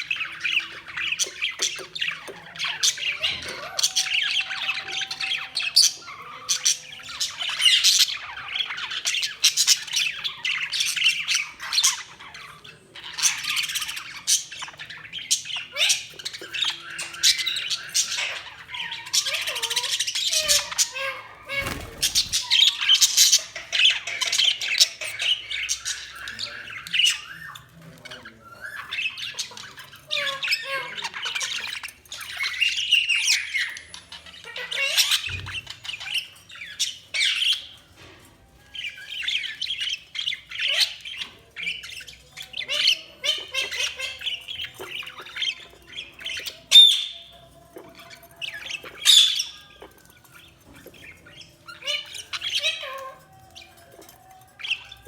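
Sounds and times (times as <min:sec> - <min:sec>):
budgies chattering and chirping: 0:00.0 - 0:55.0.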